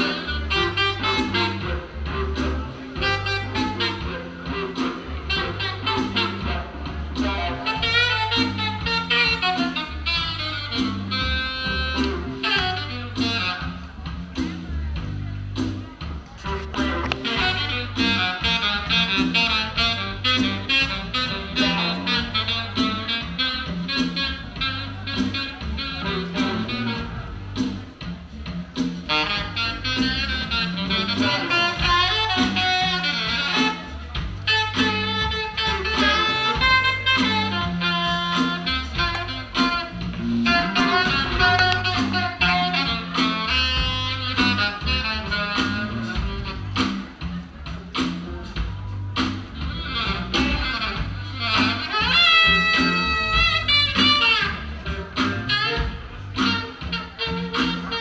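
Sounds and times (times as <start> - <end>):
bass line: 0.0 - 58.0
guitar and horn melody: 0.0 - 58.0
live band music: 0.0 - 58.0.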